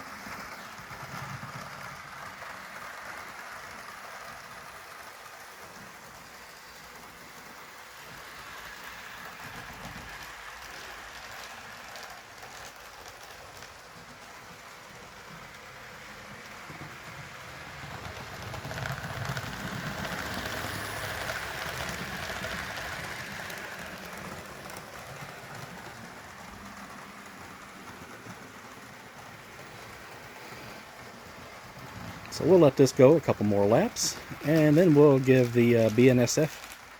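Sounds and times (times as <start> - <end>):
model train motor whirring: 0.0 - 36.9.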